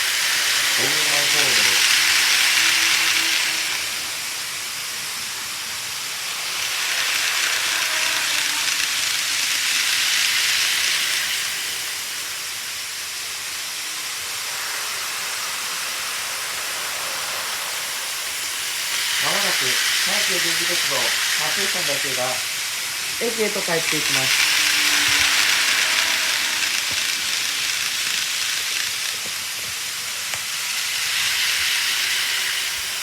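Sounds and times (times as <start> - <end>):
model train rolling hiss: 0.0 - 33.0.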